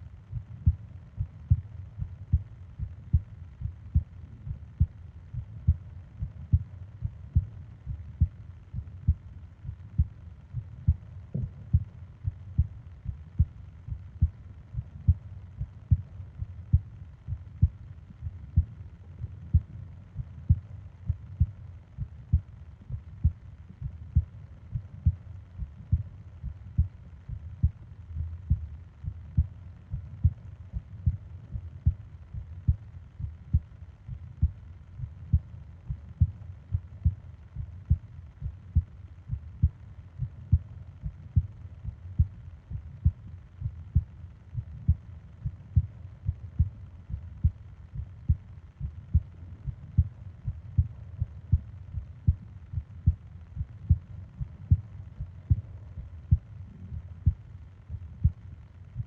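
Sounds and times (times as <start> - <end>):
heartbeat thumps: 0.3 - 58.4.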